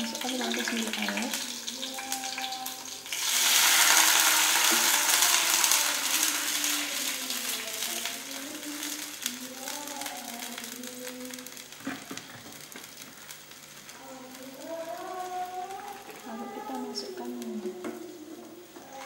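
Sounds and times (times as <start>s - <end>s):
water sizzling in hot oil: 0.0s - 19.0s.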